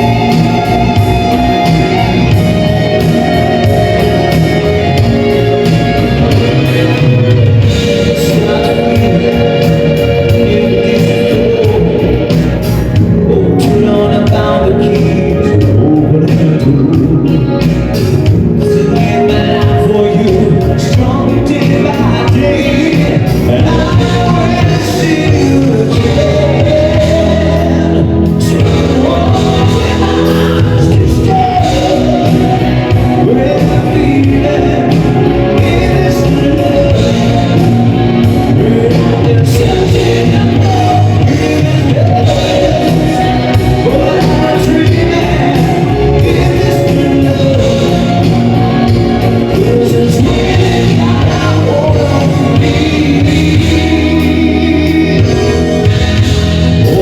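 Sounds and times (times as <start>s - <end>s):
lead singer singing: 0.0s - 57.0s
live band playing: 0.0s - 57.0s.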